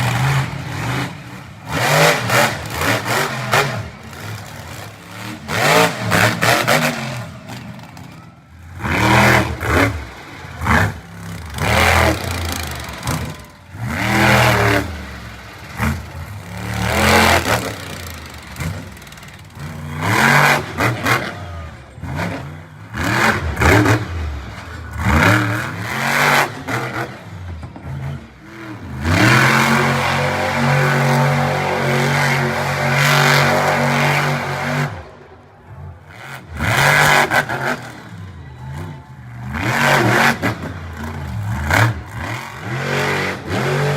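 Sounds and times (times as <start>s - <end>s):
monster truck engine revving: 0.0s - 43.9s.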